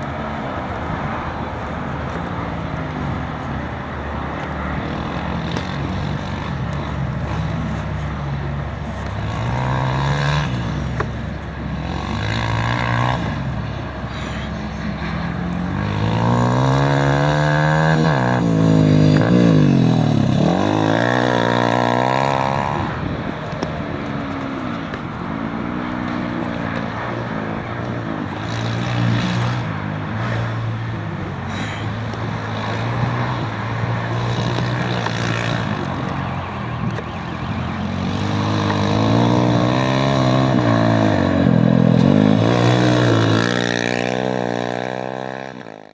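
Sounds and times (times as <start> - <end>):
rally car engines revving and passing: 0.0 - 45.9.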